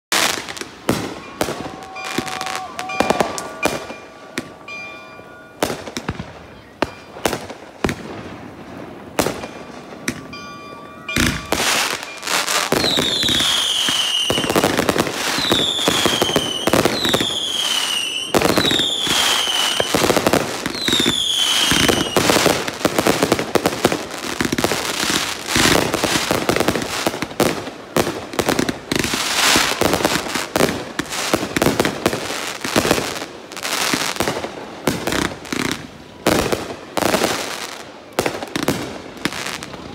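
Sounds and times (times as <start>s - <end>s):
fireworks bursting and crackling: 0.1s - 39.9s
fireworks falling whistles: 0.1s - 39.9s.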